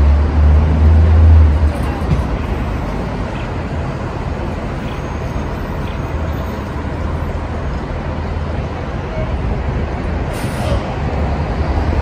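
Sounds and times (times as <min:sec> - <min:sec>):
passing vehicles: 0:00.0 - 0:12.0.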